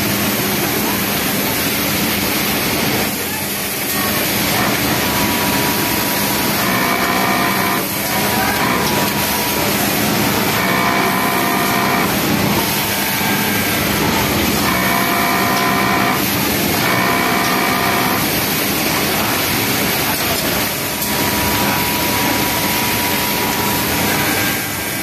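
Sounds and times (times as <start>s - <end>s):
loud mechanical hum: 0.0s - 25.0s
sewing machine whining: 3.3s - 25.0s.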